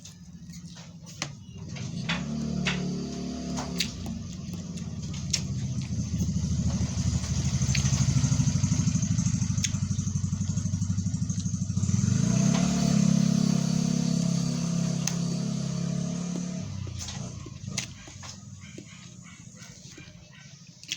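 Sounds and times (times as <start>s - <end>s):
motor engine running: 0.0s - 20.9s.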